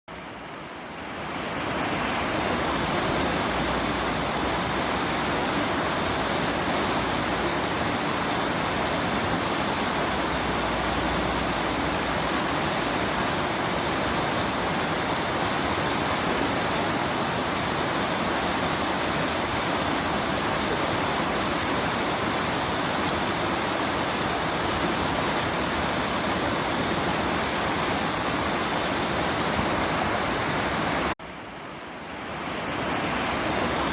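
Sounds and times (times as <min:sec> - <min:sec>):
stream flowing: 0:00.1 - 0:33.9.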